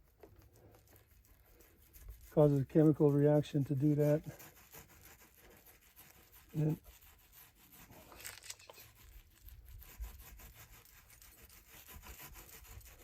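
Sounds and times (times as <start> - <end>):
resin rubbing on fiberglass cloth: 0.0 - 13.0.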